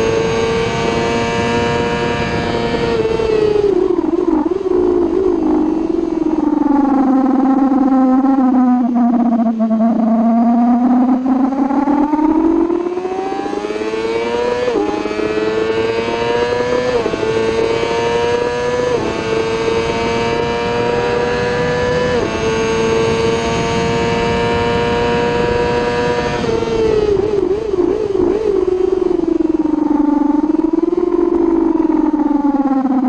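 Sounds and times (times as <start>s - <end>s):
motorcycle engine accelerating: 0.0s - 33.0s
wind rushing over microphone: 0.0s - 33.0s.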